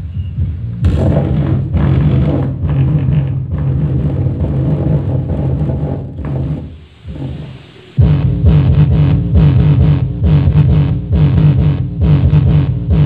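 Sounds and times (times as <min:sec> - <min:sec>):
bass-heavy music from speaker: 0:00.0 - 0:13.0.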